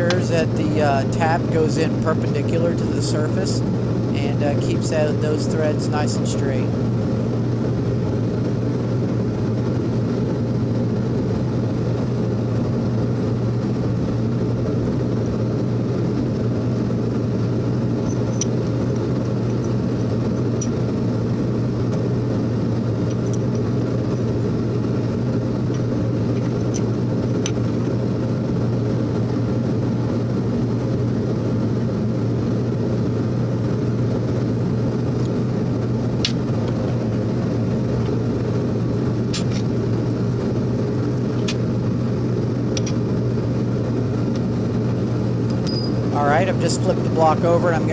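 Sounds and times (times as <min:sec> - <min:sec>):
shop machinery humming: 0:00.0 - 0:47.9.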